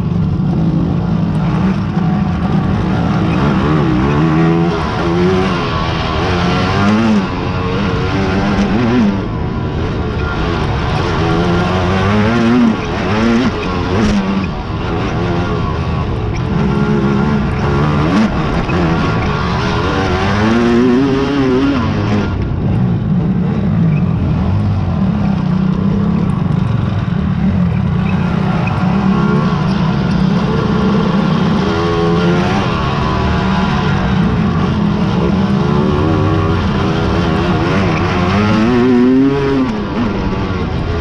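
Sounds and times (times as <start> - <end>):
quad engines revving: 0.0 - 41.0.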